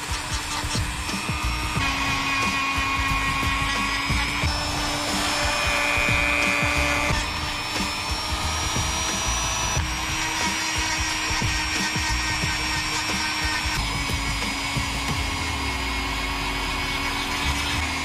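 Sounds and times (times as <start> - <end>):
rotary tool whining: 0.0 - 18.0
background music: 0.1 - 18.0.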